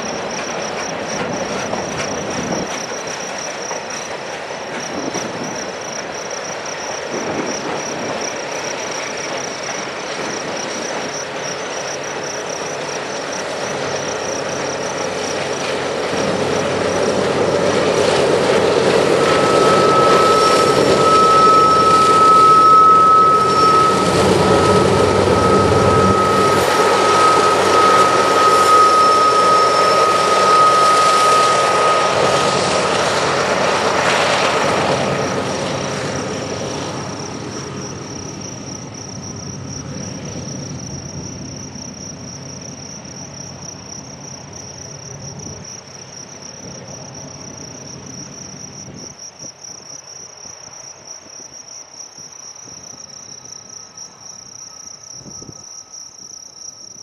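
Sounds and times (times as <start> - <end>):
high wheel squeal: 0.0 - 45.9
diesel locomotive engine running: 0.0 - 49.1
insects chirping: 0.0 - 57.0
train wheels rumbling on rails: 0.0 - 57.0.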